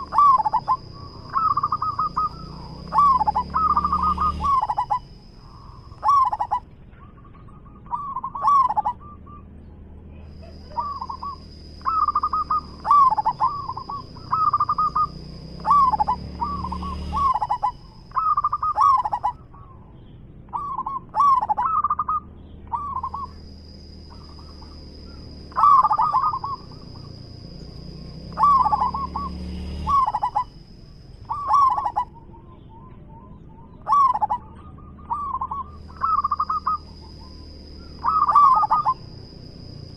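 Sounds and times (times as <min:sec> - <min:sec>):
high-pitched whine: 0:00.0 - 0:19.5, 0:20.5 - 0:39.9
dove cooing: 0:00.0 - 0:39.9.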